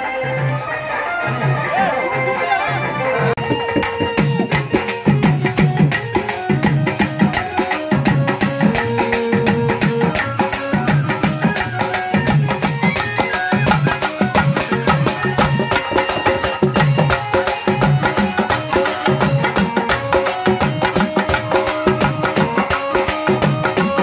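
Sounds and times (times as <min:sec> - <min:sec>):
hand drums playing fast rhythm: 0:03.3 - 0:24.0.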